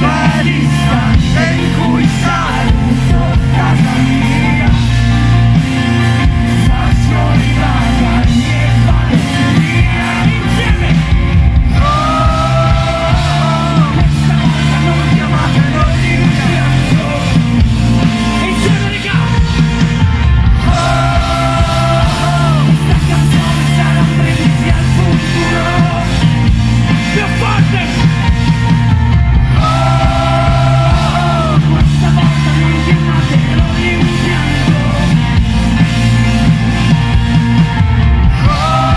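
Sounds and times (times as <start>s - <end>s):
person singing: 0.0s - 19.9s, 20.5s - 28.0s, 29.5s - 35.8s, 37.6s - 38.9s
live rock band playing: 0.0s - 38.9s.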